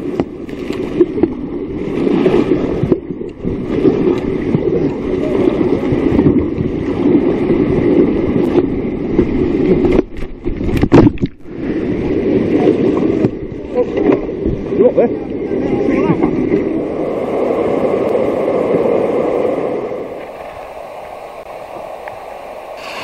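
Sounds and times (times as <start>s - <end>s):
whitewater rushing and splashing: 0.0s - 23.0s.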